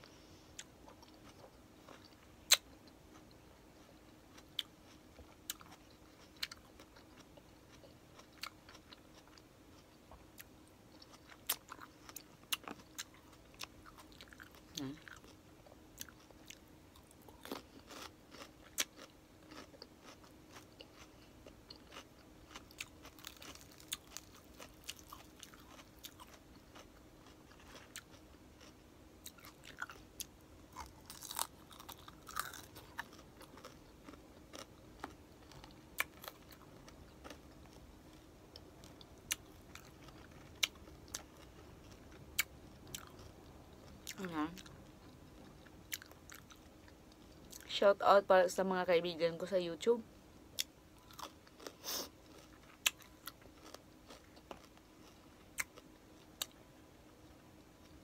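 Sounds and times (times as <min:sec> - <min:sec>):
chewing crispy food: 0:00.0 - 0:47.8, 0:50.5 - 0:58.0.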